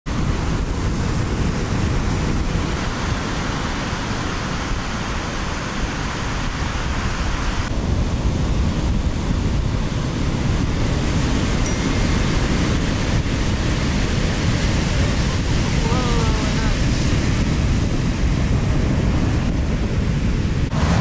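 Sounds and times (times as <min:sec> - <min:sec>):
ocean surf washing: 0:00.1 - 0:21.0
wind rumbling on microphone: 0:00.1 - 0:21.0.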